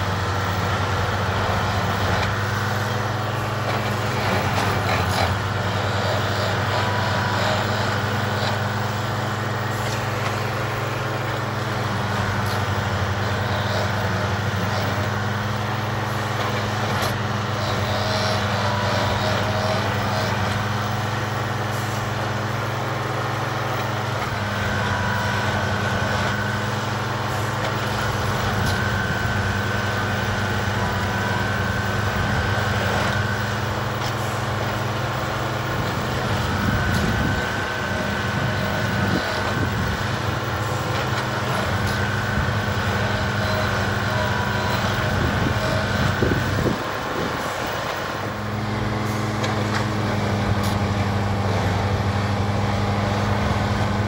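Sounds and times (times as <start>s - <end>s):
diesel engine low hum: 0.0s - 54.0s.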